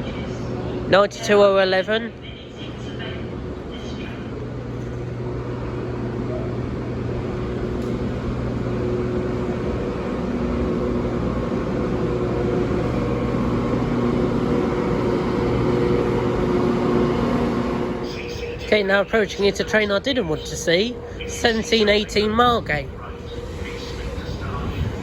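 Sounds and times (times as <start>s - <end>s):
electric locomotive hum: 0.0s - 25.0s
train rumble: 0.0s - 25.0s.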